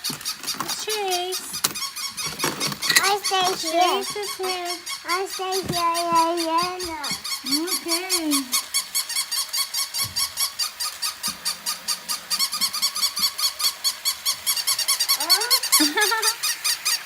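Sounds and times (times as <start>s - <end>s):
toy puppies squeaking: 0.0s - 17.0s.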